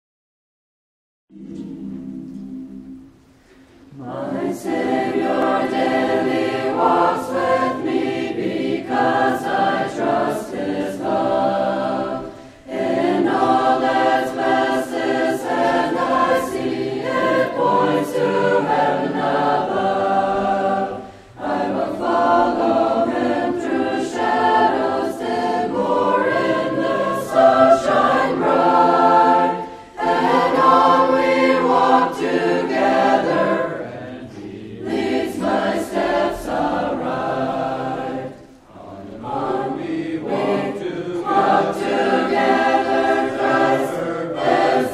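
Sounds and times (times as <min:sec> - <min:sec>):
choir singing a hymn: 0:01.3 - 0:44.9.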